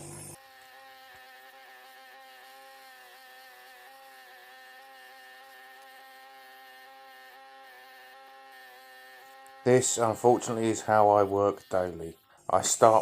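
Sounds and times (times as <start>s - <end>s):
electric motor whining hum: 0.0s - 13.0s.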